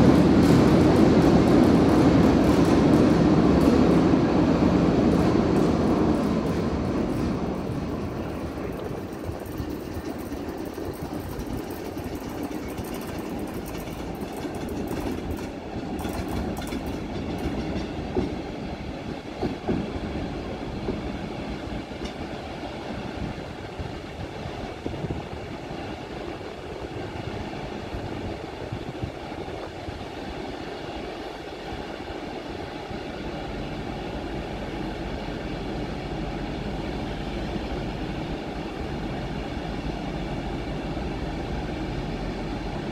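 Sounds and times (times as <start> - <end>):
locomotive hum and rumble: 0.0 - 42.9.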